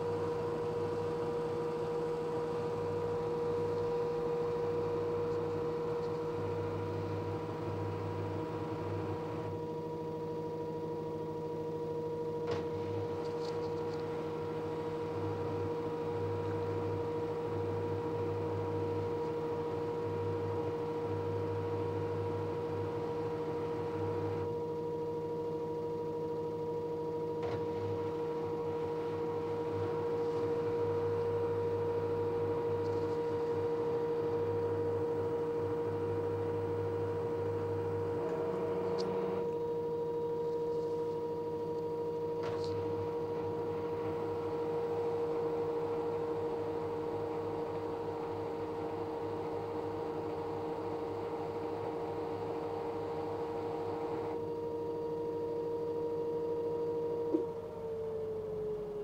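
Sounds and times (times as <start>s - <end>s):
washing machine whining hum: 0.0s - 59.0s.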